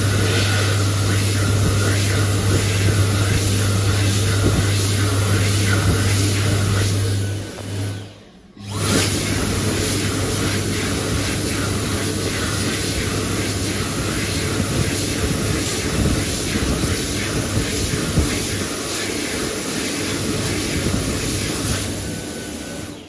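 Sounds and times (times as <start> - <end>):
hand dryer blowing: 0.0 - 23.0.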